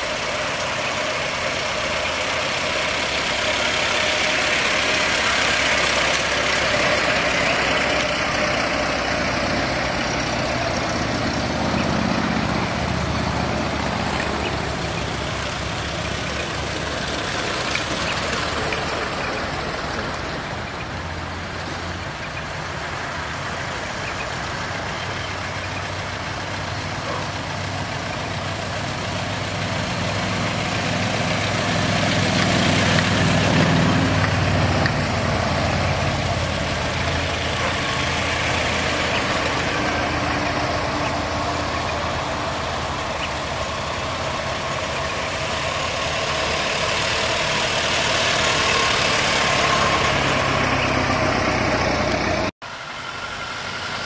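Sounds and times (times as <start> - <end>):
old car engines driving past: 0.0 - 54.0.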